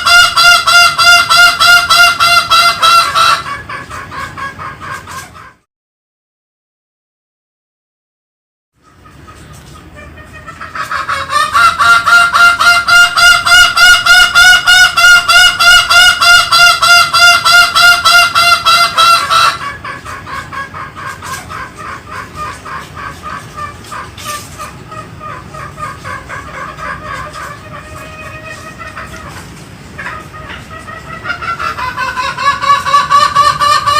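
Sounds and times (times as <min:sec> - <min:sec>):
junglefowl calling: 0:00.0 - 0:05.6, 0:08.8 - 0:33.9.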